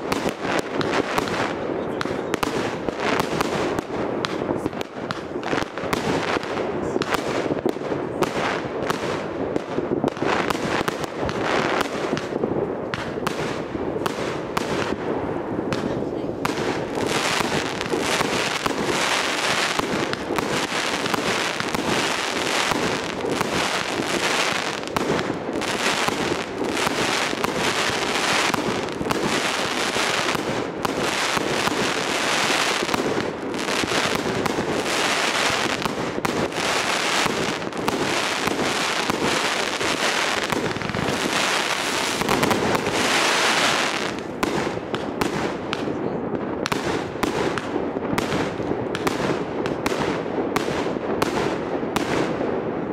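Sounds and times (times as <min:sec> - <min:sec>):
fireworks crackling and banging: 0:00.0 - 0:52.9.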